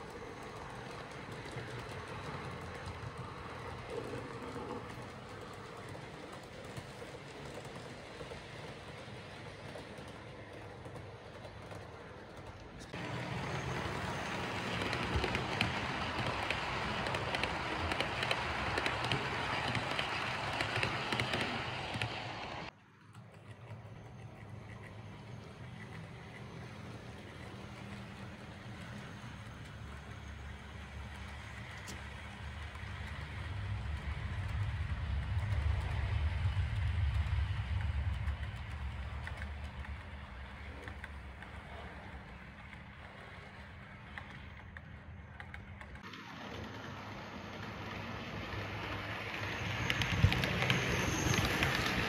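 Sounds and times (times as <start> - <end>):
clicks over rail joints: 0.0 - 47.0
model train wheels rattling: 0.0 - 52.0.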